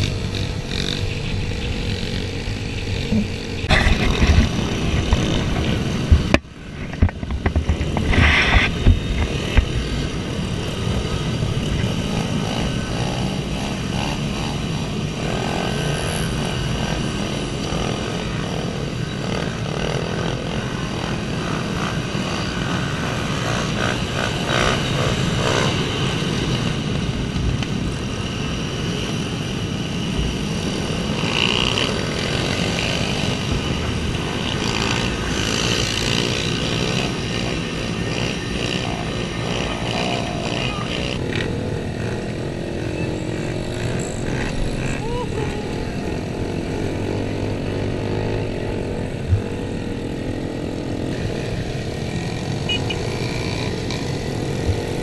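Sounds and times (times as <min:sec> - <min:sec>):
small motorcycle engines revving: 0:00.0 - 0:55.0.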